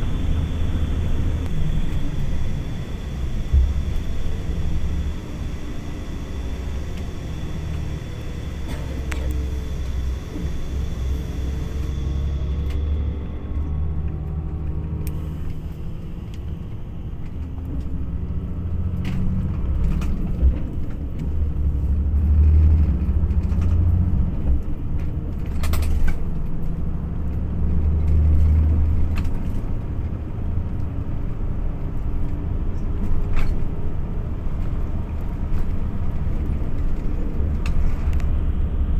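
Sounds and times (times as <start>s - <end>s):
vehicle engine rumbling: 0.0s - 38.9s.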